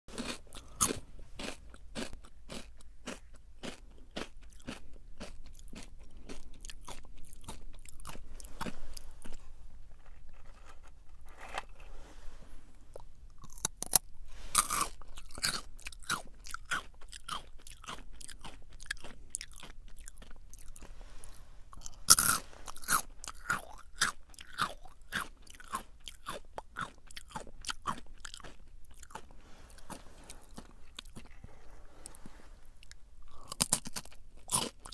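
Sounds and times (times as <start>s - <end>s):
crunching snacks being chewed: 0.1s - 12.0s, 12.9s - 34.9s.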